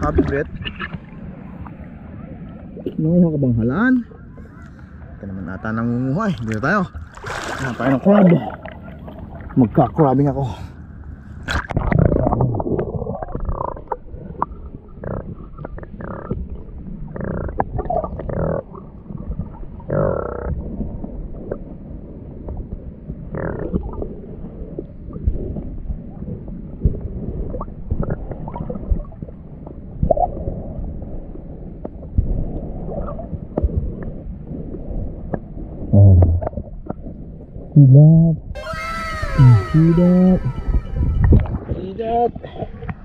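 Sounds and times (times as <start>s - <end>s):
muffled underwater water movement: 0.0s - 43.0s.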